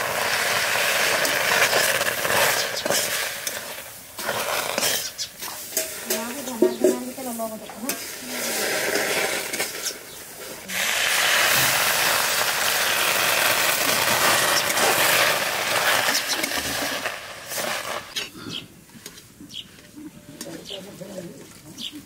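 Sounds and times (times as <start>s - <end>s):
sizzling hiss in a wok: 0.0s - 18.2s.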